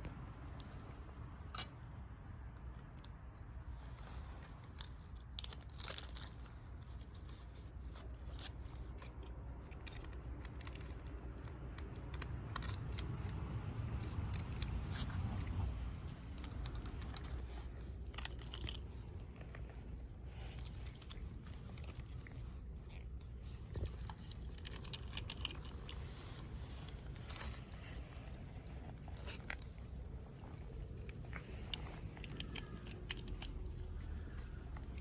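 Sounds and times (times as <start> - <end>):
cat chewing crunches: 0.0 - 35.0
low steady rumble: 0.0 - 35.0.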